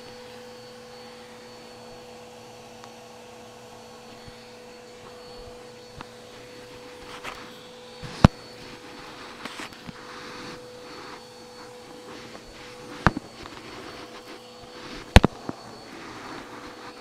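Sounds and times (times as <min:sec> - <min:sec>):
vacuum cleaner whining: 0:00.0 - 0:17.0.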